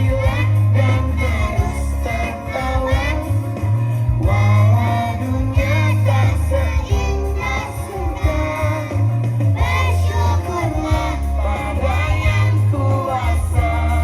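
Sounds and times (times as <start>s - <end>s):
children's choir singing: 0.0s - 3.3s, 4.2s - 14.0s
music with heavy bass: 0.0s - 14.0s.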